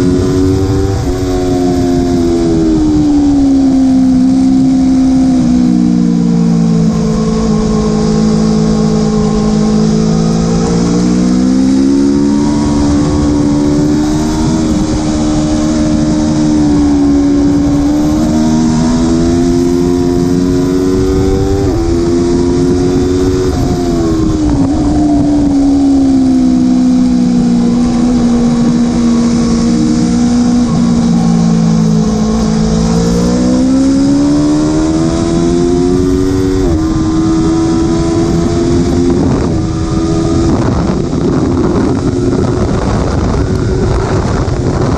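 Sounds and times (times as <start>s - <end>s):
motorcycle engine revving: 0.0s - 44.9s
wind noise: 0.0s - 44.9s.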